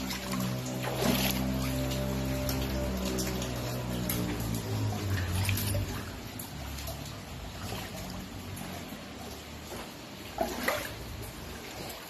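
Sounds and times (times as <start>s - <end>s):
low steady hum: 0.0s - 12.0s
water trickling and lapping: 0.0s - 12.0s.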